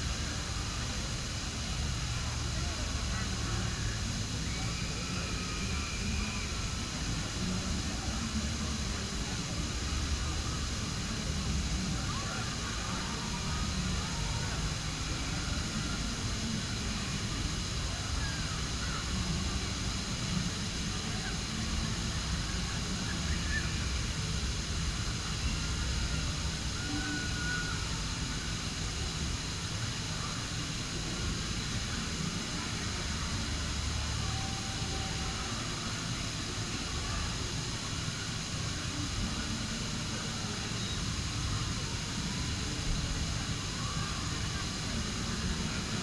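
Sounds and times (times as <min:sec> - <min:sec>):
faint distant voices: 0:00.0 - 0:46.0.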